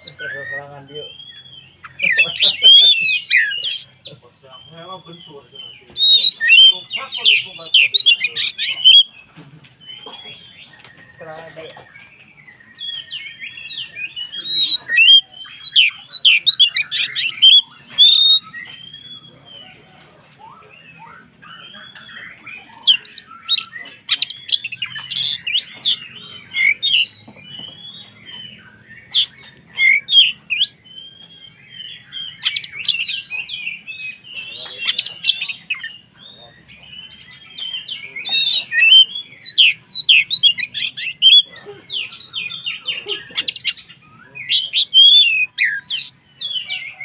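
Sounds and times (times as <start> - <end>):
magpie-robin singing: 0.0 - 47.0.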